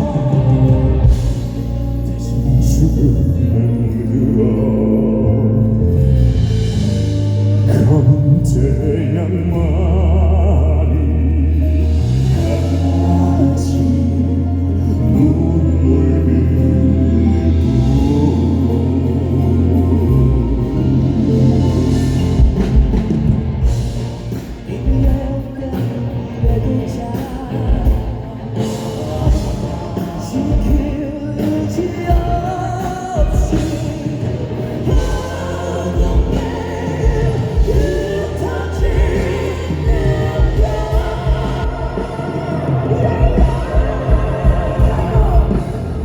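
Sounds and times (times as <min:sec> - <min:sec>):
bass: 0:00.0 - 0:46.0
heavy drums: 0:00.0 - 0:46.0
male vocal quartet singing: 0:00.0 - 0:46.0
rock band playing: 0:00.0 - 0:46.0.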